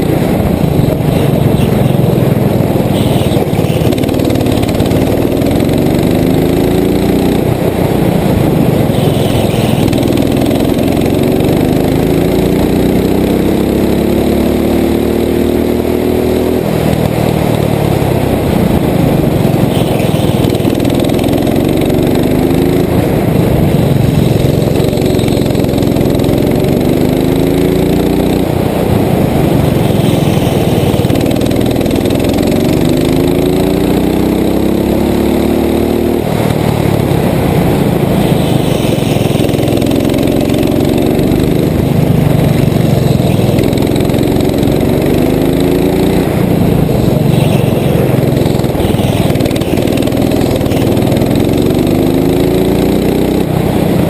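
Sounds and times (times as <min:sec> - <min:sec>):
go-kart engine running hard: 0:00.0 - 0:54.0.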